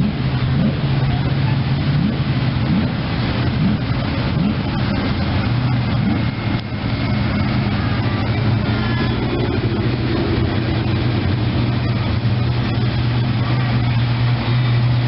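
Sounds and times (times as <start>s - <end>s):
car engines passing slowly: 0.0s - 15.0s
pickup truck driving by: 0.0s - 15.0s.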